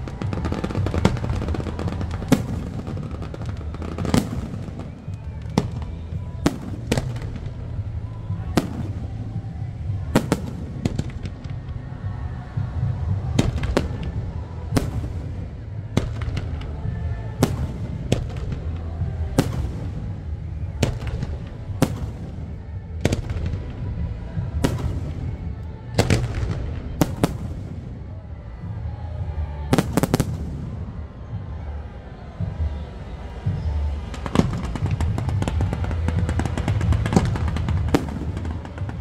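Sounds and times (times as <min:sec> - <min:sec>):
fireworks bangs: 0:00.0 - 0:28.2, 0:28.9 - 0:39.0.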